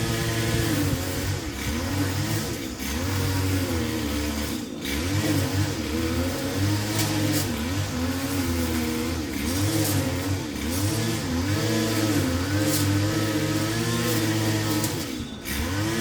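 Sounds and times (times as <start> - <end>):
lawn mower engine mowing: 0.0 - 16.0.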